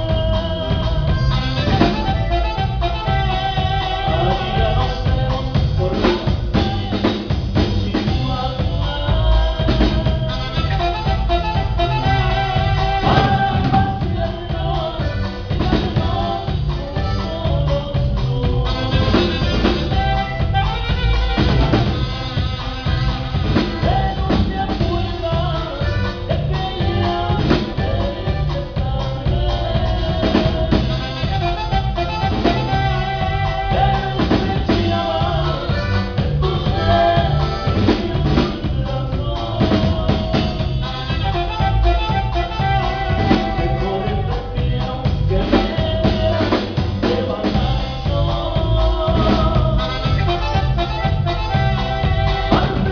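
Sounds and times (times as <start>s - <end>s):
bass: 0.0s - 52.9s
drum kit beat: 0.0s - 52.9s.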